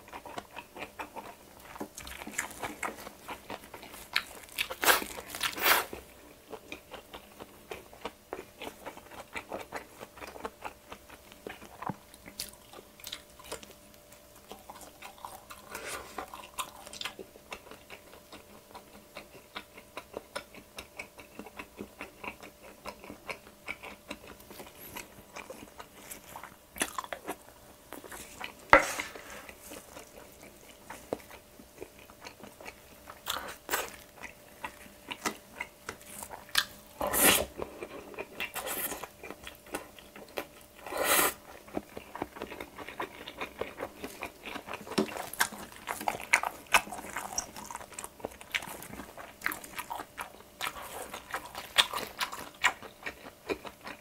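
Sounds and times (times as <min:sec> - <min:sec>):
close chewing and mouth sounds: 0:00.0 - 0:54.0.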